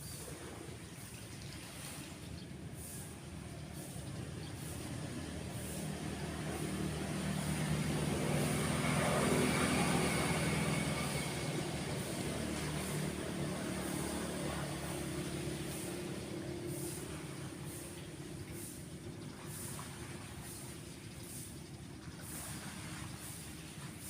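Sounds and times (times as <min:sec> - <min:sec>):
surf washing: 0:00.0 - 0:24.0
vehicle passing by: 0:00.0 - 0:24.0.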